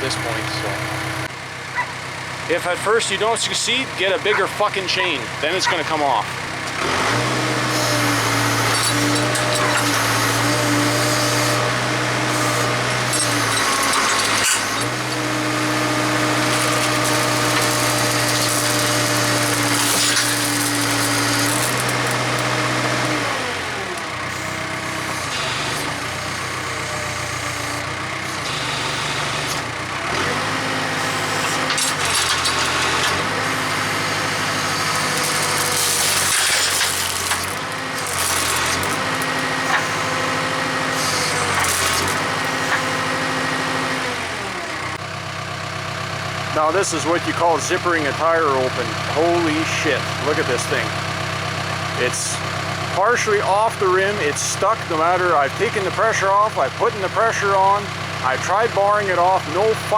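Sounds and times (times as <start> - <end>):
backhoe engine under load: 0.0 - 59.9.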